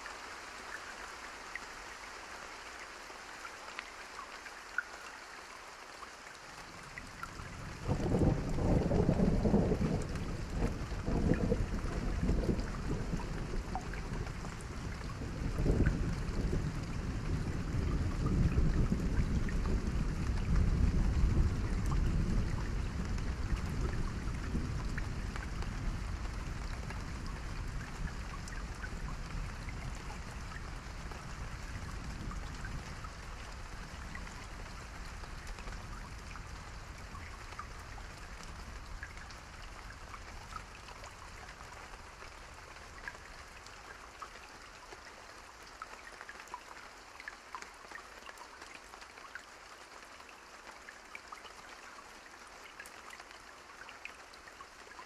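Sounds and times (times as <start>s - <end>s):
rain drops ticking on surface: 0.0s - 55.0s.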